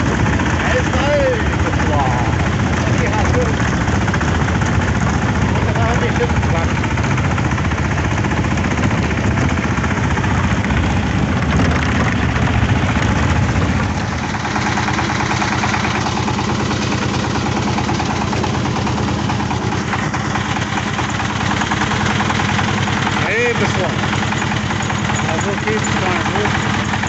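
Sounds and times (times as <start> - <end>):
diesel tractor engine running: 0.0 - 27.0.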